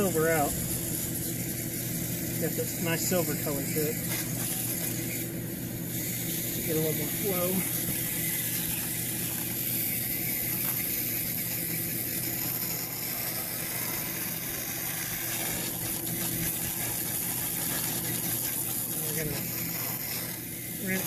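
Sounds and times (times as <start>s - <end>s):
hose nozzle spray hissing: 0.0s - 5.3s, 5.9s - 21.0s
steady low hum: 0.0s - 21.0s.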